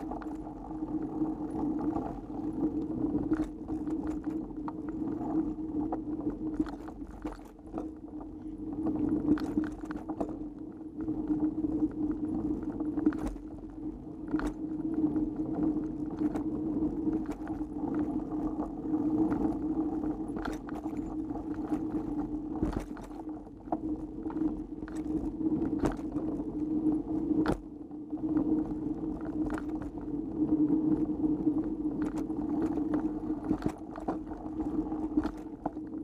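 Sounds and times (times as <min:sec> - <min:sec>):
bike tyre hum: 0:00.0 - 0:36.0.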